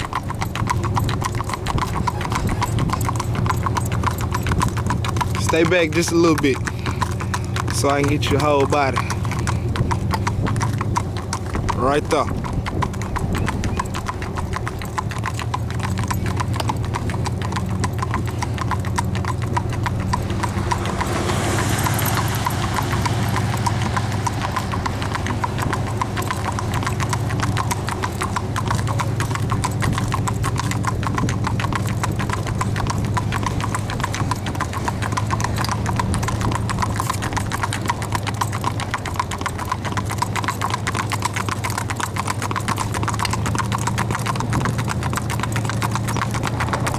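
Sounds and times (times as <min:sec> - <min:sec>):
hooves clip-clopping fast: 0:00.0 - 0:46.9.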